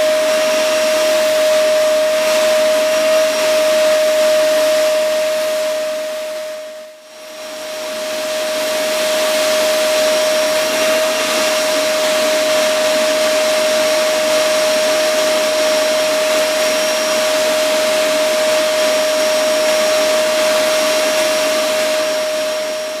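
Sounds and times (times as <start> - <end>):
vacuum cleaner motor whine: 0.0 - 23.0.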